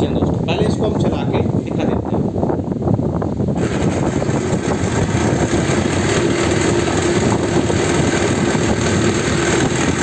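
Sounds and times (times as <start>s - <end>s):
fan motor hum: 0.0s - 10.0s
fan rattling: 0.0s - 10.0s.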